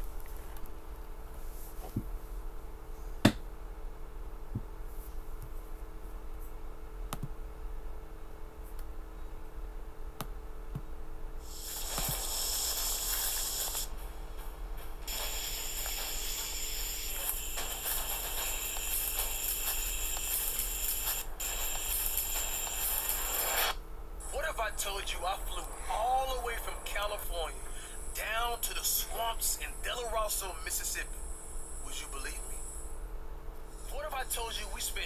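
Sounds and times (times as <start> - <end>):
dense high hiss-like noise: 0.0 - 35.0
electrical hum: 0.0 - 35.0.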